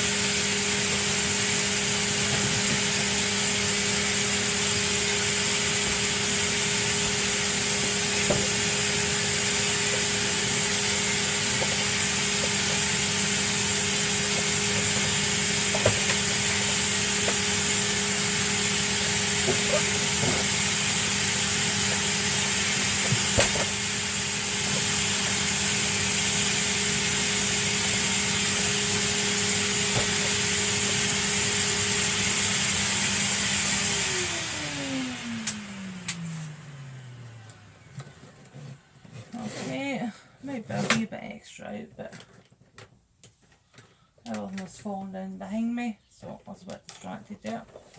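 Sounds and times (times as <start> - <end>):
vacuum cleaner motor whining: 0.0 - 41.0.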